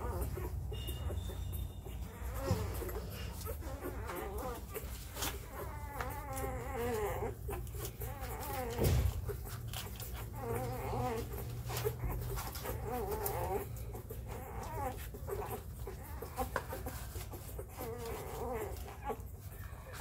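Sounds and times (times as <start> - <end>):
puppies squeaking and whining: 0.0 - 20.0.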